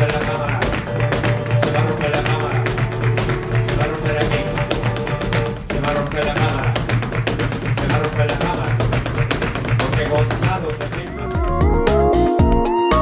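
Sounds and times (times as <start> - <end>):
shoes stamping on wooden stage: 0.0 - 11.8.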